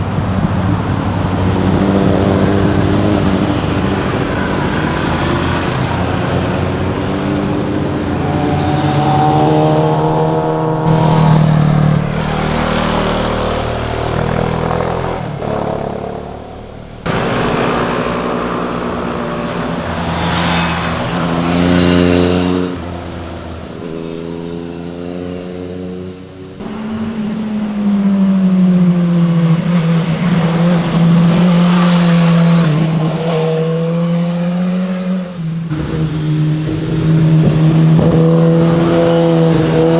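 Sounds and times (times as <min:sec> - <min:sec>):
motorcycles revving past: 0:00.0 - 0:39.9.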